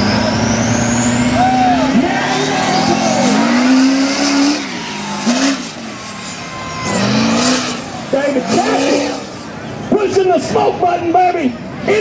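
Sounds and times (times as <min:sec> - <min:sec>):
diesel engine revving: 0:00.0 - 0:10.4.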